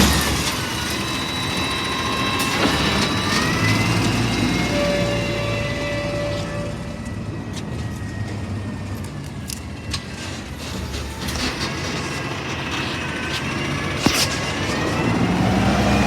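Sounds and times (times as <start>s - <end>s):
garbage truck diesel engine running: 0.0s - 16.0s.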